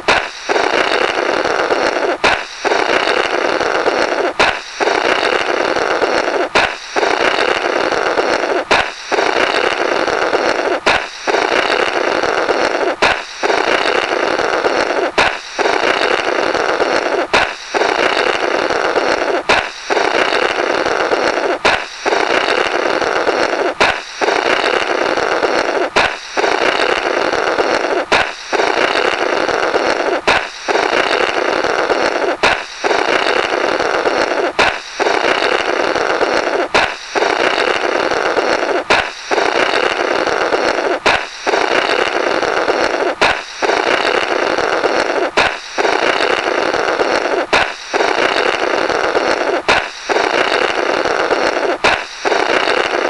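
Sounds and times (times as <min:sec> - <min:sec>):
balloon popping: 0:00.0 - 0:53.0
buzzing blow through burst rubber: 0:00.0 - 0:53.0.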